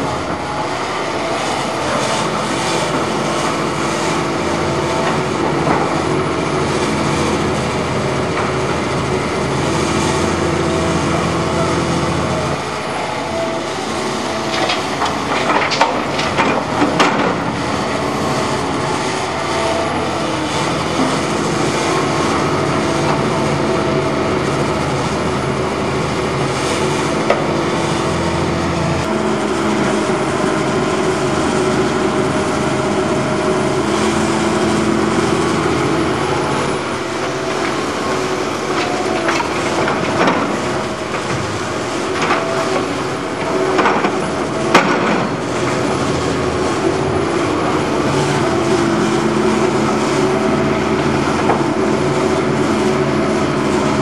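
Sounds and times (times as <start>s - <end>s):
excavator diesel engines running: 0.0s - 54.0s.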